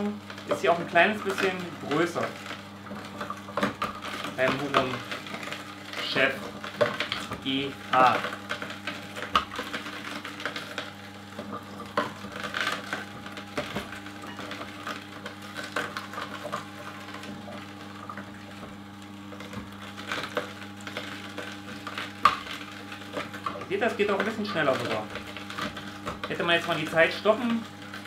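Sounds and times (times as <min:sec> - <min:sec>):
juicer motor hum: 0:00.0 - 0:28.0
crunching and cracking carrots: 0:00.2 - 0:28.0.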